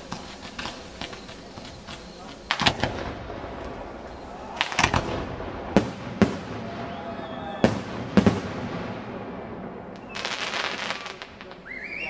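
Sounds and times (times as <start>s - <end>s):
fireworks bangs with echo: 0.0s - 12.0s
fireworks crackling: 0.0s - 12.0s.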